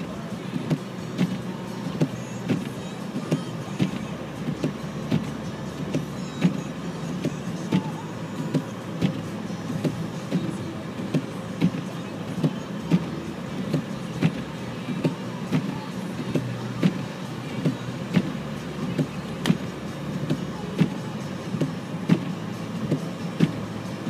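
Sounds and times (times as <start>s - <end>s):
car engine and tyres hum: 0.0s - 24.0s
windscreen wipers knocking: 0.0s - 24.0s.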